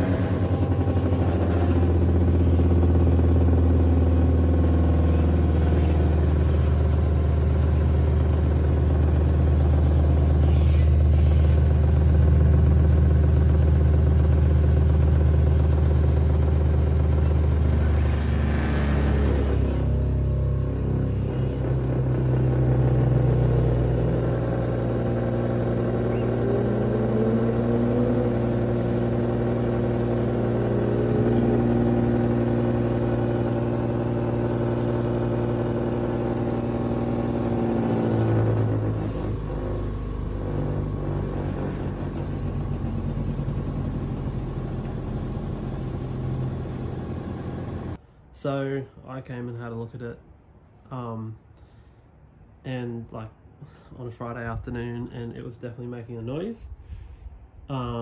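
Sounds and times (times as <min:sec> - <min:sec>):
air conditioner compressor hum: 0:00.0 - 0:58.0.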